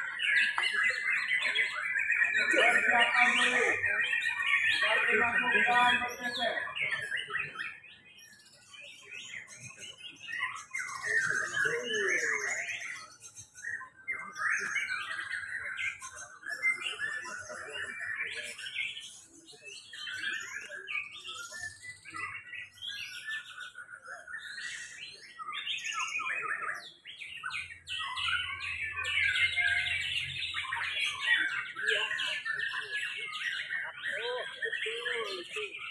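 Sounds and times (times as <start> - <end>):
songbirds whistling and chirping: 0.0 - 35.9.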